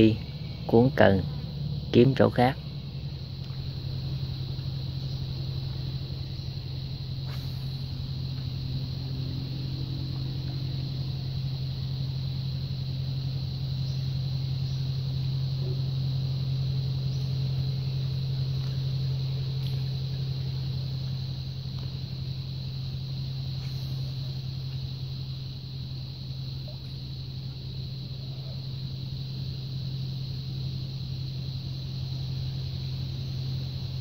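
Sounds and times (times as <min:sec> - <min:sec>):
small engine droning: 0:00.0 - 0:34.0.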